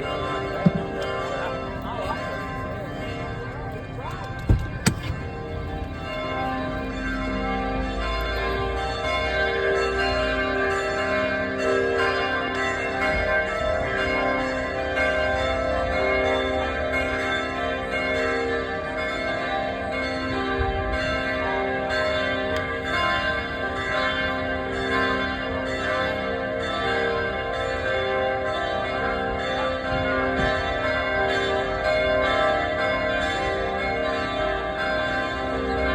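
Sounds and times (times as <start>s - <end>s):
church bells ringing: 0.0s - 35.9s.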